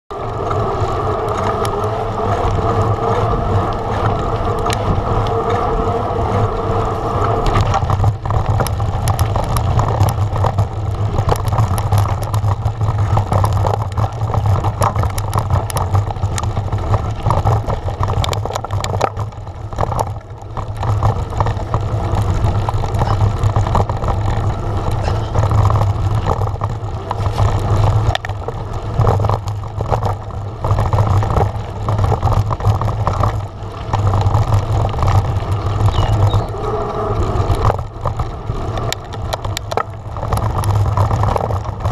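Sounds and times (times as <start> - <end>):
bike rattling over stony trail: 0.1 - 41.9
tyres humming on tarmac: 0.1 - 41.9
wind rumbling on microphone: 0.1 - 41.9.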